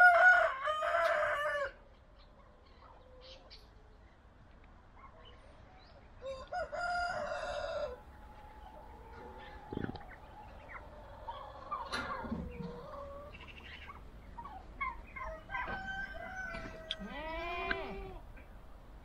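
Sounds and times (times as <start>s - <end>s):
poultry clucking and calling: 0.0s - 19.0s.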